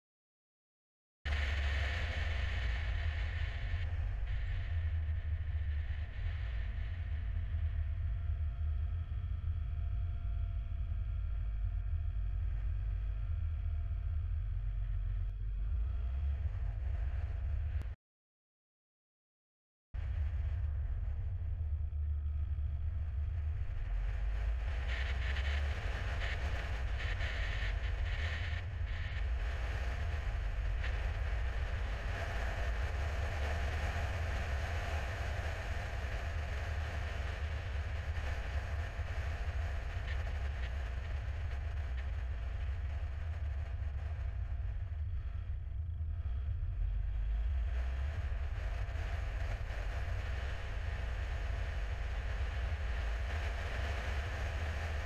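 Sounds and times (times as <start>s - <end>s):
car engine and tyre rumble: 1.3s - 17.9s, 20.0s - 55.0s.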